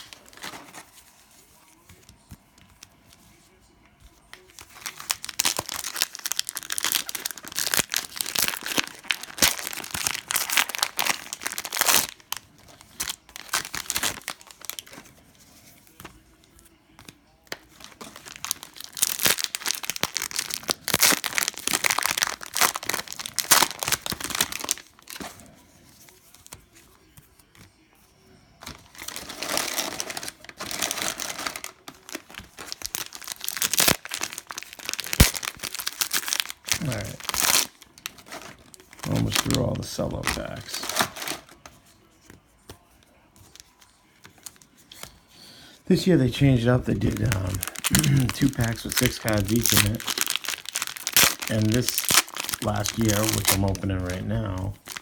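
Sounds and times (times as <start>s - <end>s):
cellophane wrappers crinkling and tearing: 0.0s - 3.0s, 4.2s - 27.7s, 28.6s - 41.7s, 43.4s - 45.1s, 45.9s - 55.0s.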